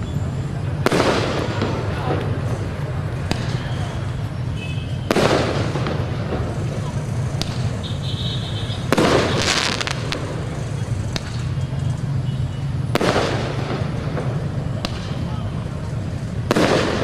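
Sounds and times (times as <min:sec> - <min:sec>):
fireworks bursting: 0:00.0 - 0:17.0
fireworks crackling: 0:00.0 - 0:17.0.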